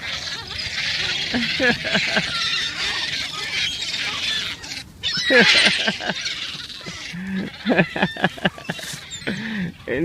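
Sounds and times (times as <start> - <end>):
flock of birds squawking: 0.0 - 10.0.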